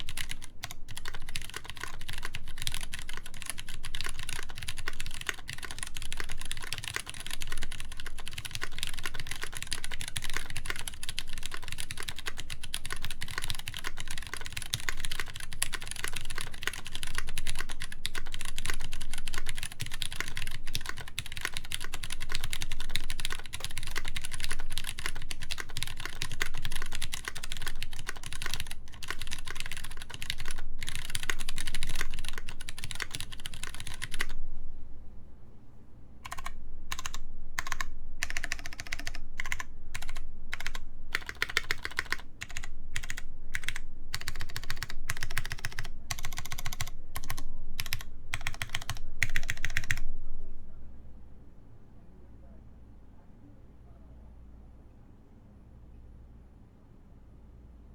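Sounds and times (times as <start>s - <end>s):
fast typing on mechanical keyboard: 0.0s - 34.4s, 36.2s - 50.1s.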